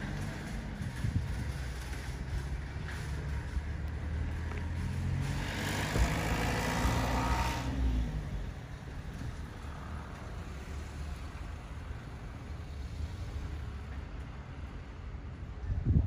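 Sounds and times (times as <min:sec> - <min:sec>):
motor vehicle passing: 0:00.0 - 0:13.8
low traffic rumble: 0:00.0 - 0:16.0.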